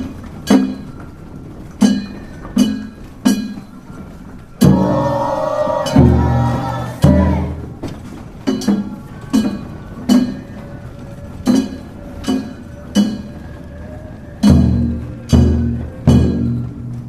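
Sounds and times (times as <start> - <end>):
drum strokes: 1.8 - 17.0.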